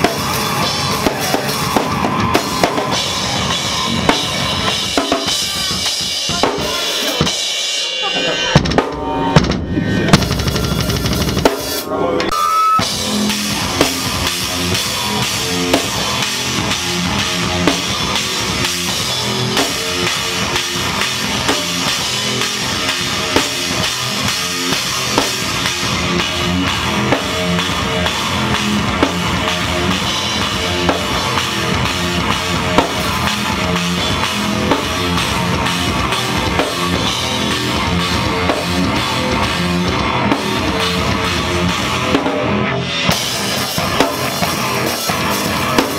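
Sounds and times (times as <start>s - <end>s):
pounding bass drum: 0.0s - 7.5s, 8.1s - 11.9s, 12.8s - 45.9s
electric guitars: 0.0s - 45.9s
metal band playing: 0.0s - 45.9s.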